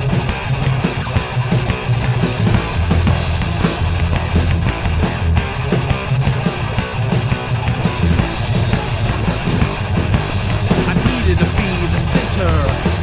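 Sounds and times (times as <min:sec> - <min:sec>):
bass guitar: 0:00.0 - 0:13.0
distorted guitars: 0:00.0 - 0:13.0
drum kit playing: 0:00.0 - 0:13.0.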